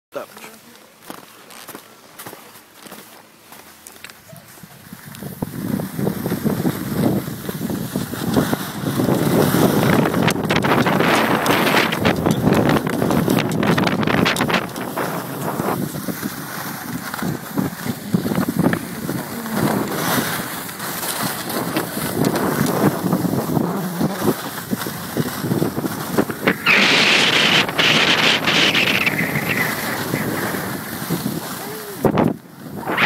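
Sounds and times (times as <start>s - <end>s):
skis scraping on snow: 0.2s - 33.0s
wind buffeting microphone: 4.4s - 33.0s.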